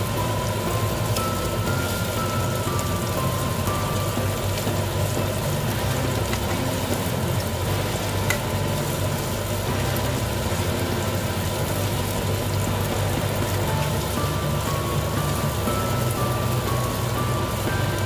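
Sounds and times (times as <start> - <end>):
french fries sizzling in pan: 0.0 - 18.0.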